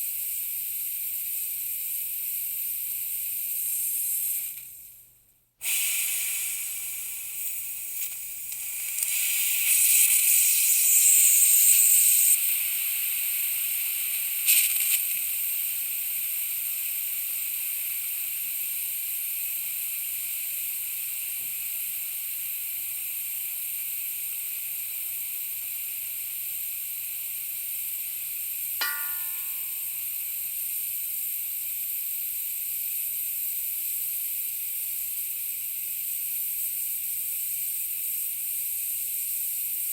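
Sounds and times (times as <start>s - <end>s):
air hissing from a leak: 0.0s - 39.9s.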